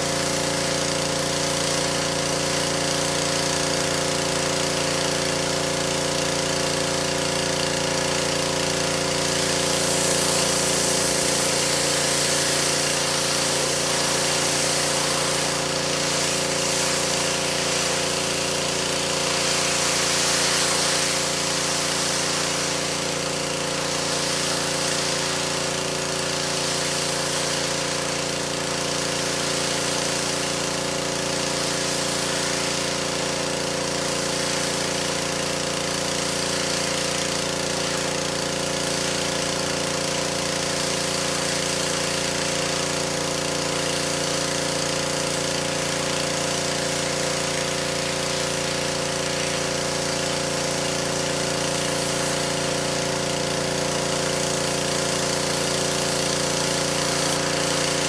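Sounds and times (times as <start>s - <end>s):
pressure washer hum: 0.0s - 58.0s
water spray hissing: 0.0s - 58.0s.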